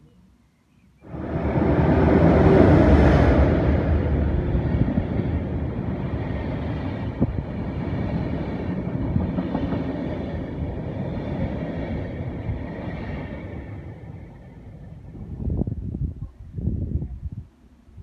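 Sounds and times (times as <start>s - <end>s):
train rushing past: 1.0s - 16.0s.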